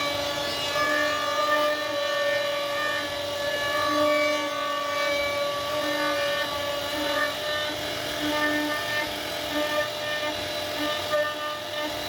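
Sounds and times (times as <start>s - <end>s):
router spindle whine carving wood: 0.0s - 12.0s.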